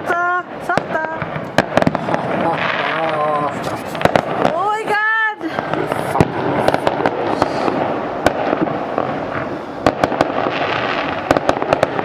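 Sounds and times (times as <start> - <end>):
crackle of distant fireworks: 0.0 - 12.0
firecracker bangs: 0.0 - 12.0.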